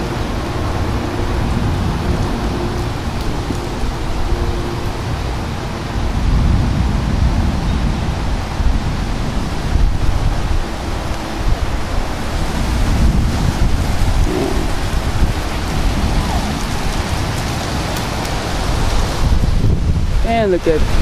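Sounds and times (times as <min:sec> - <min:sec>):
wind gusts on microphone: 0:00.0 - 0:21.0.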